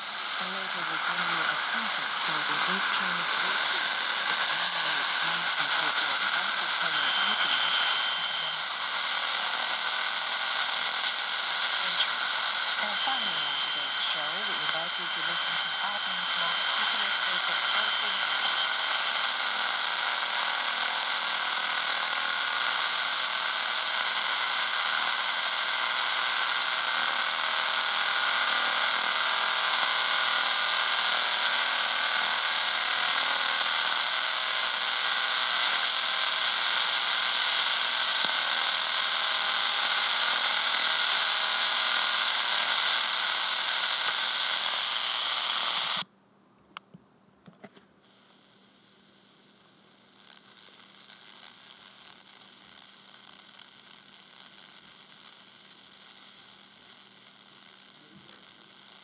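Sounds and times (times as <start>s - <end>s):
radio static hiss: 0.0s - 46.1s, 46.7s - 59.0s.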